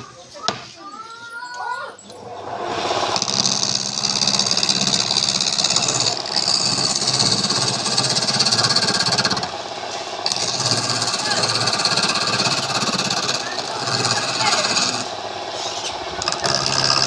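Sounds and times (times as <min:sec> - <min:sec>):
small motor-driven machine hissing: 0:00.8 - 0:17.0.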